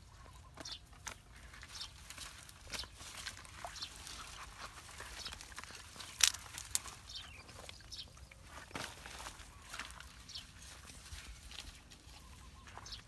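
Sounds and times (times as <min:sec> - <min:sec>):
pine needles and twigs crackling: 0:00.2 - 0:13.0.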